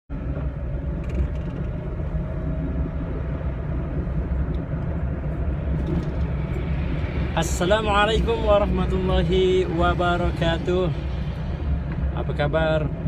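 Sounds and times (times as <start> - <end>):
car engine rumble inside cabin: 0.1 - 13.0
faint steady whine: 0.1 - 13.0.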